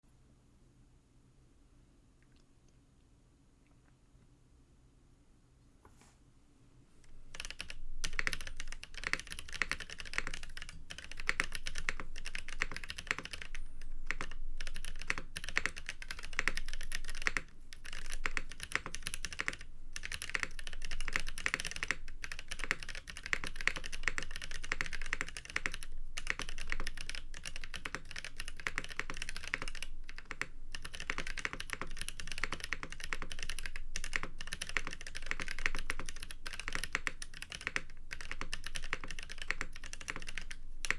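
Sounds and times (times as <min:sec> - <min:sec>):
mechanical keyboard typing: 0:07.3 - 0:40.9.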